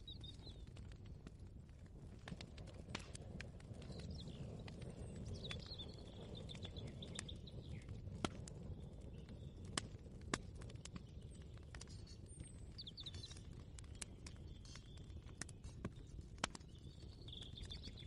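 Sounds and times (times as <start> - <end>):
small birds chirping: 0.0 - 0.8, 3.8 - 18.0.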